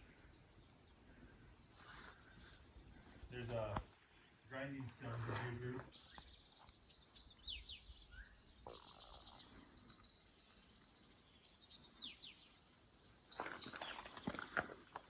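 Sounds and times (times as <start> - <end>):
songbird singing buzzy trills: 0.0 - 15.0.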